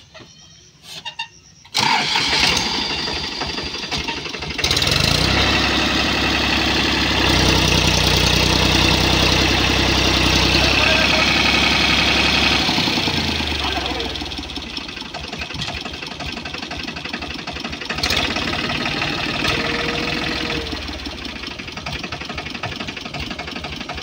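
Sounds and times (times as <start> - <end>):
diesel engine running: 1.6 - 24.0
starter motor cranking: 1.7 - 6.3, 7.1 - 24.0.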